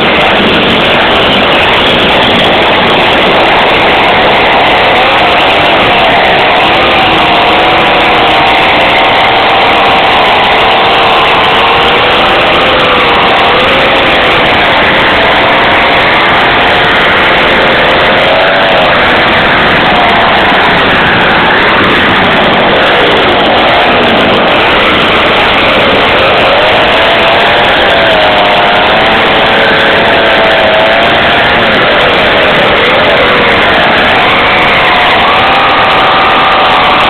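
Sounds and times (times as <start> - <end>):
two-stroke engine running: 0.0 - 37.0.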